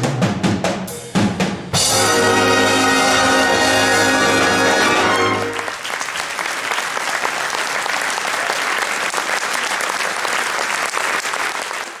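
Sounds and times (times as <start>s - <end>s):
audience applauding: 2.1s - 12.0s.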